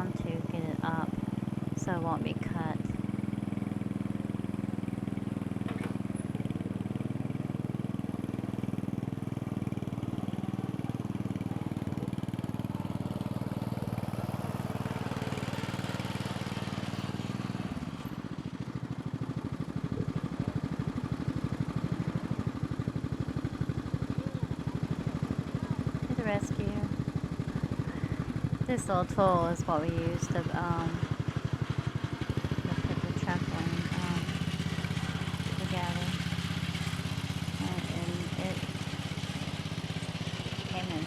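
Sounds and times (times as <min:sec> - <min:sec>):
lawn mower engine running: 0:00.0 - 0:41.0.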